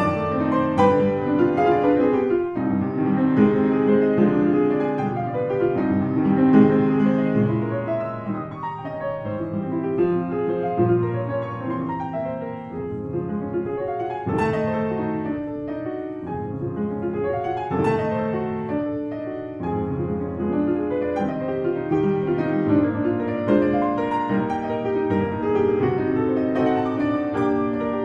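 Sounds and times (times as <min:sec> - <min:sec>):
piano chords: 0:00.0 - 0:28.0.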